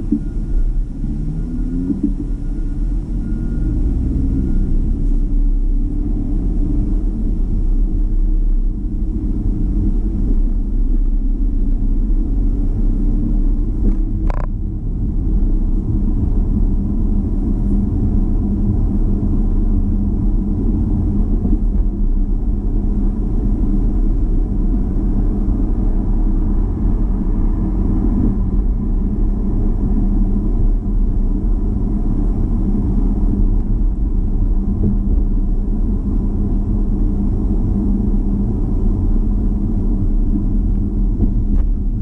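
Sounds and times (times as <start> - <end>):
car engine and tyre rumble: 0.0 - 42.0
faint constant hum: 0.0 - 42.0.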